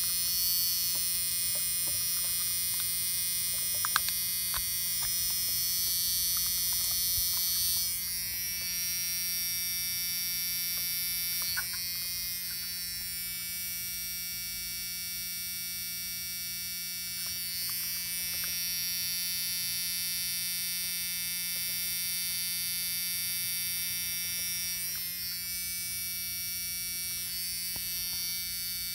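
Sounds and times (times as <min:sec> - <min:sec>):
electrical buzz: 0:00.0 - 0:21.4, 0:22.3 - 0:28.9.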